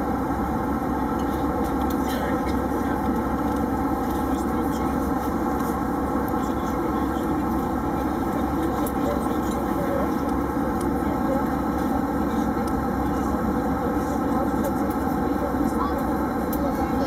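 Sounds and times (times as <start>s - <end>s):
airplane cabin drone in flight: 0.0s - 17.0s.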